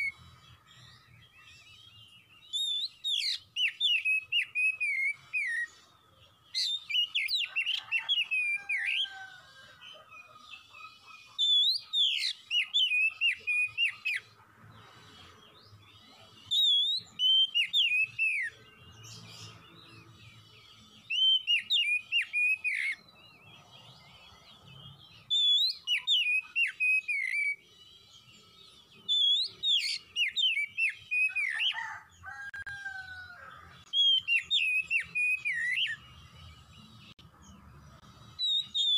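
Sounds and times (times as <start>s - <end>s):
magpie-robin whistling song: 0.0s - 32.0s, 33.8s - 37.3s, 38.0s - 38.9s.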